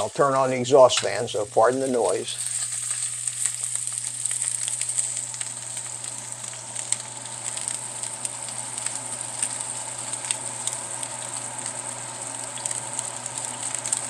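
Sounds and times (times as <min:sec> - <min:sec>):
kitchen exhaust fan hum: 0:00.0 - 0:14.0
steak sizzling in grease: 0:00.0 - 0:14.0.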